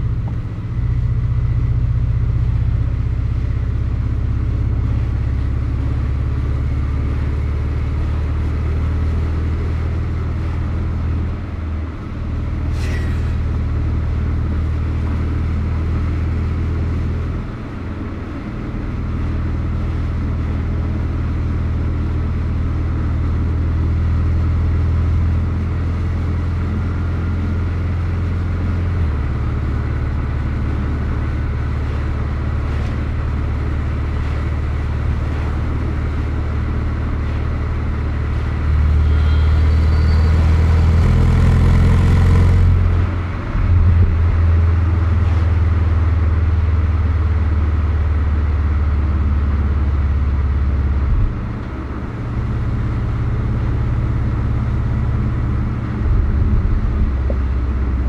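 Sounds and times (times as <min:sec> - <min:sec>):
car engine pulling steadily: 0:00.0 - 0:58.0
tyre and road noise: 0:00.0 - 0:58.0.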